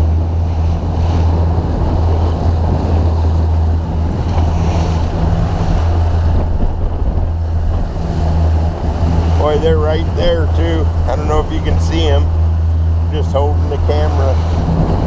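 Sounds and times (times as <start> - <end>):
motorboat engine drone: 0.0 - 15.0
water splashing along hull: 0.0 - 15.0
wind buffeting microphone: 0.0 - 15.0.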